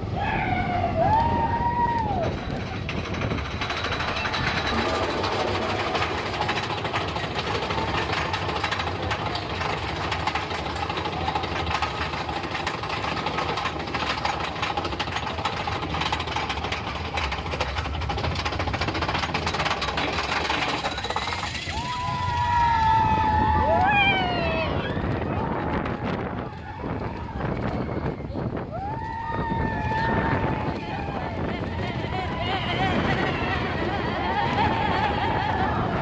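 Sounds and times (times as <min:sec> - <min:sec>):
roller coaster cars rattling on track: 0:00.0 - 0:36.0.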